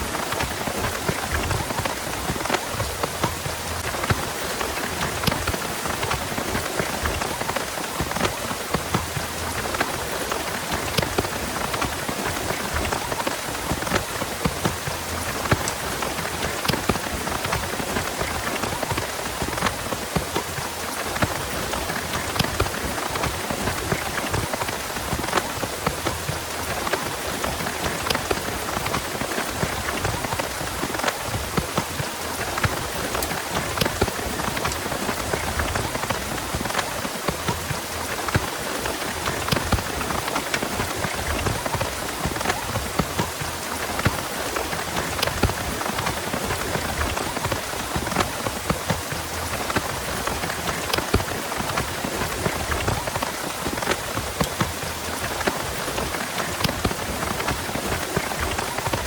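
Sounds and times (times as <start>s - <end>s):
heavy rain with ticking drops: 0.0s - 59.0s.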